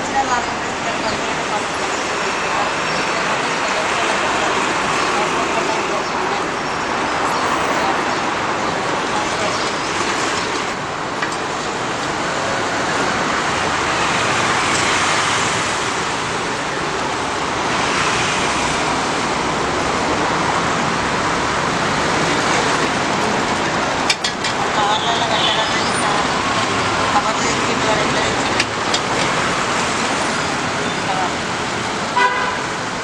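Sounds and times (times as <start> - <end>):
indistinct voices: 0.0 - 33.0
roadside traffic: 0.0 - 33.0.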